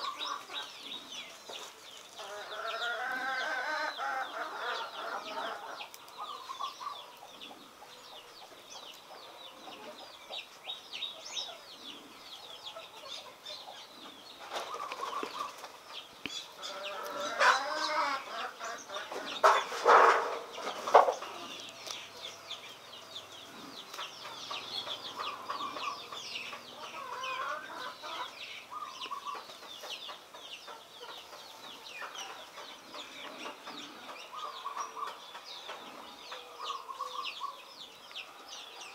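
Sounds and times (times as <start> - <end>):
chickens clucking: 0.0 - 38.9
small birds chirping: 0.0 - 38.9.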